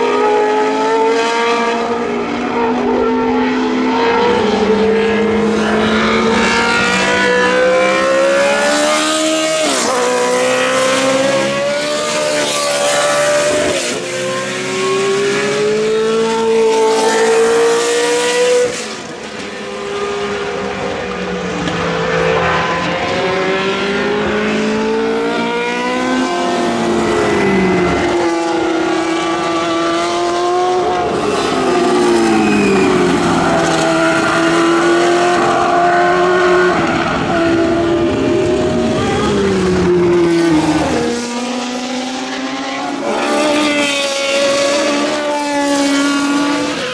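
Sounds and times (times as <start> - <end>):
race car engines revving: 0.0 - 46.9.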